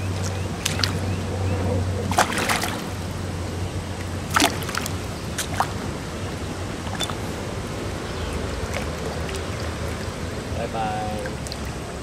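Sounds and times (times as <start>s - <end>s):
sharp water splashes: 0.0s - 1.2s, 2.0s - 12.0s
river water sloshing: 0.0s - 12.0s
steady low hum: 0.0s - 12.0s.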